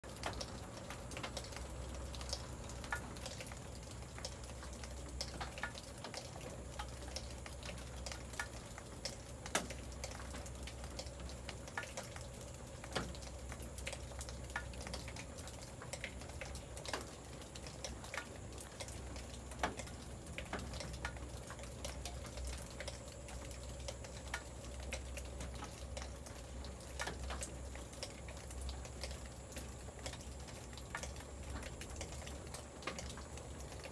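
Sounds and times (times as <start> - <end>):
raindrops ticking on surfaces: 0.0 - 33.9.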